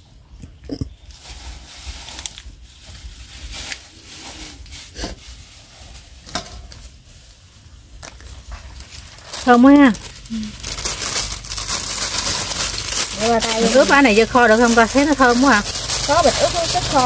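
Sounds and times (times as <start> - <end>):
plastic sachets crinkling: 1.1 - 17.0.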